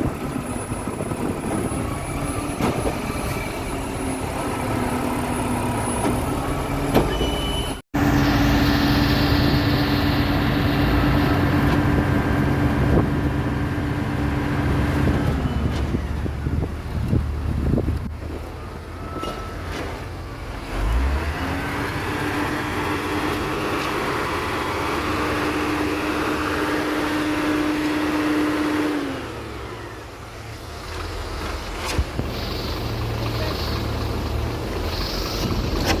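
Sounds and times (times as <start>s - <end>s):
heavy engine whining: 0.0s - 36.0s.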